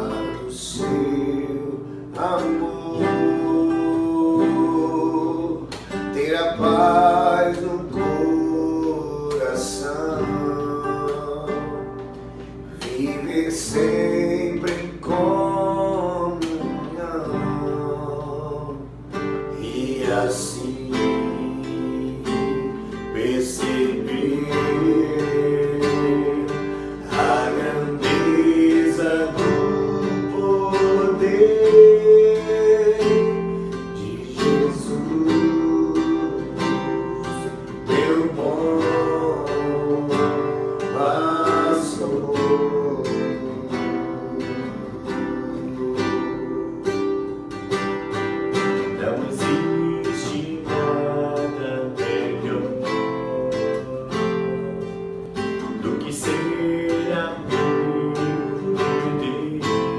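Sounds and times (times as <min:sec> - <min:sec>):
acoustic guitar strumming: 0:00.0 - 0:59.9
person singing: 0:00.0 - 0:59.9.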